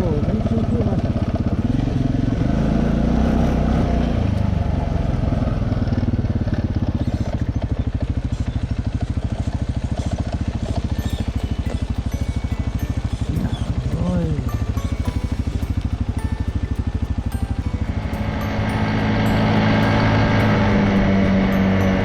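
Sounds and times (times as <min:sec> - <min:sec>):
quad engine running: 0:00.0 - 0:22.0.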